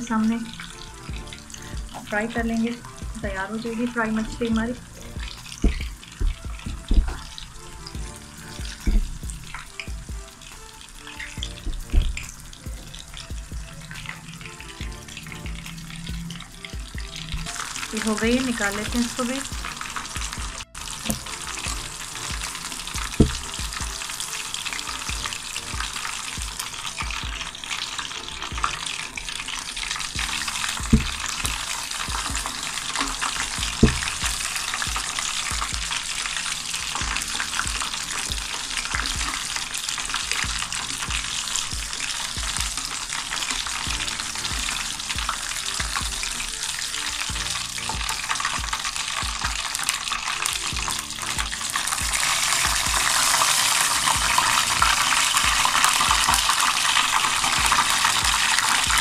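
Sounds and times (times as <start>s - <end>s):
fish sizzling in hot oil: 0.0s - 59.0s.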